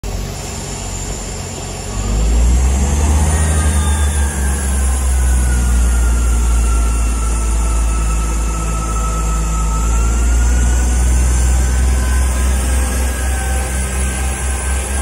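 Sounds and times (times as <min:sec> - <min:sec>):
diesel train engine throbbing: 0:00.0 - 0:15.0
faint drive whine: 0:00.1 - 0:15.0.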